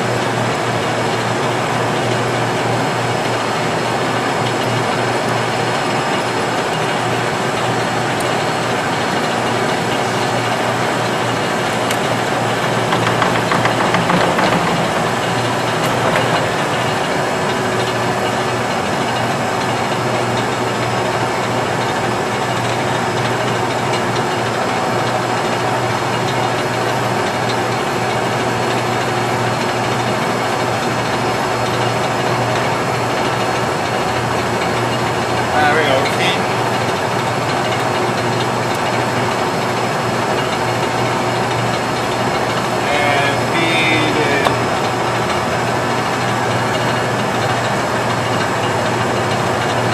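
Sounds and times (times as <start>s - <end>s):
lathe humming: 0.0s - 49.9s
lathe clattering: 0.1s - 24.6s, 25.4s - 49.9s.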